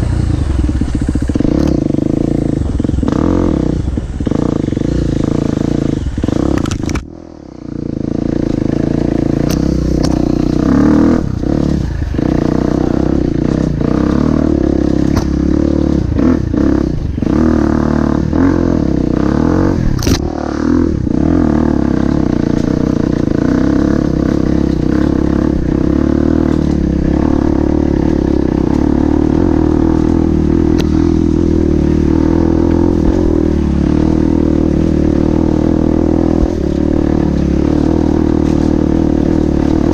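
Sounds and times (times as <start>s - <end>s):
motorcycle engine at low revs: 0.0s - 39.9s
motorcycle jolting and clattering: 0.0s - 39.9s.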